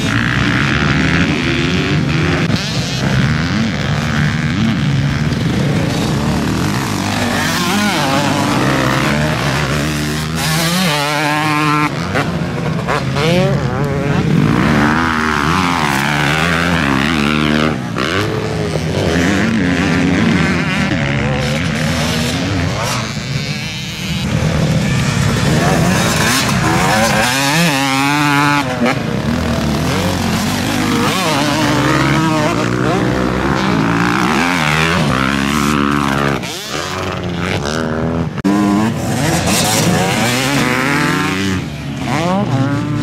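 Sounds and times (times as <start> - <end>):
vehicle engines revving and passing: 0.0 - 43.0.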